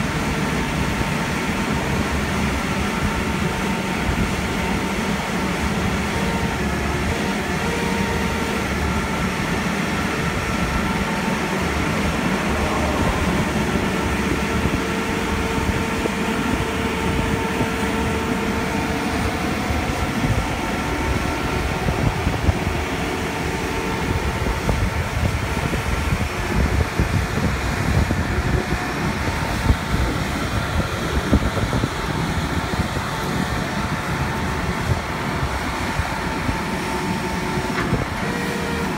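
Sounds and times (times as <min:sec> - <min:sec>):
diesel engine running: 0:00.0 - 0:38.9
steady whine: 0:00.0 - 0:38.9.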